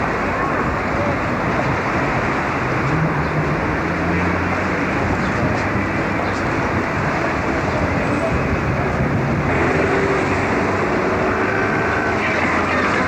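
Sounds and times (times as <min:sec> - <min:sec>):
faint voices: 0:00.0 - 0:13.0
road traffic noise: 0:00.0 - 0:13.0.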